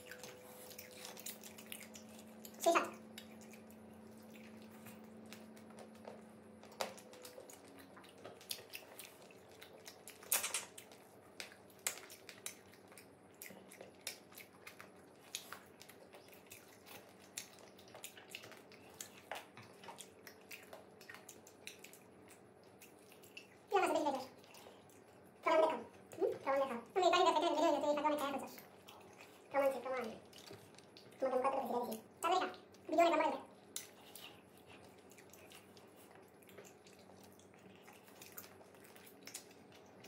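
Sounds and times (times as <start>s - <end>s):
wet chewing and lip smacks: 0.0s - 27.0s, 27.6s - 40.0s.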